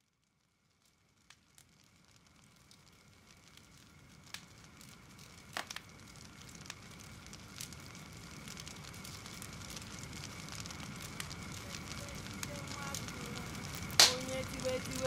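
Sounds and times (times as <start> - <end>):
fire crackling and popping: 0.0 - 15.0
low rumbling hiss: 0.0 - 15.0.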